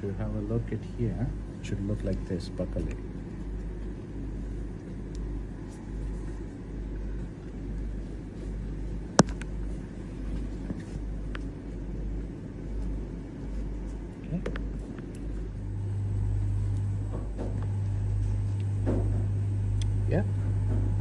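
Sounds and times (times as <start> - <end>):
low rumble and hum: 0.0 - 21.0.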